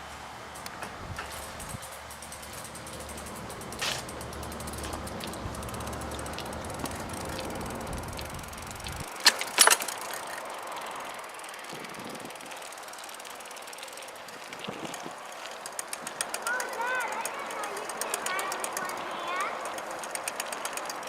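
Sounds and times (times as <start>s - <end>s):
bicycle riding rumble: 0.0s - 21.0s.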